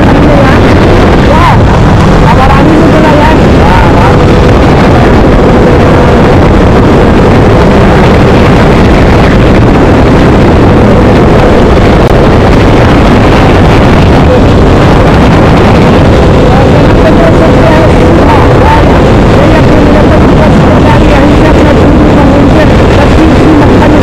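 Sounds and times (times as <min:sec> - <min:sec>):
vehicle rumble: 0:00.0 - 0:24.0
wind on microphone: 0:00.0 - 0:24.0.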